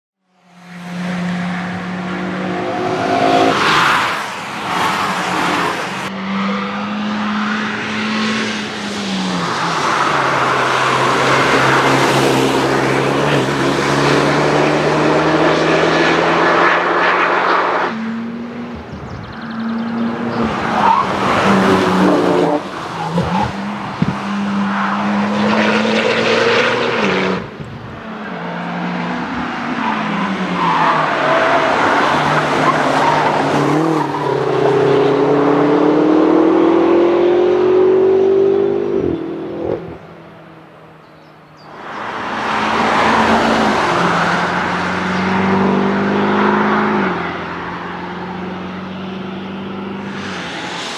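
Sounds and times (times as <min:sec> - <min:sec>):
race car engines revving: 0:00.4 - 0:50.9.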